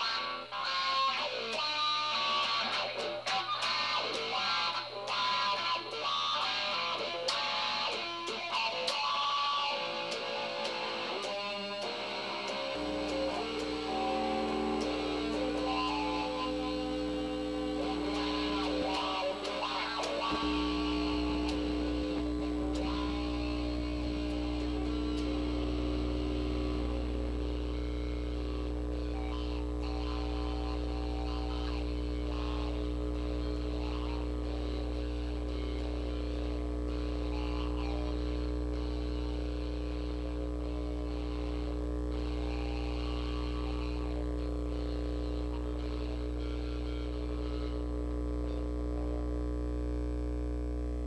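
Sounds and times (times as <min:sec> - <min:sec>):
electric guitar through amplifier: 0:00.0 - 0:51.0
low amplifier hum: 0:10.1 - 0:51.0.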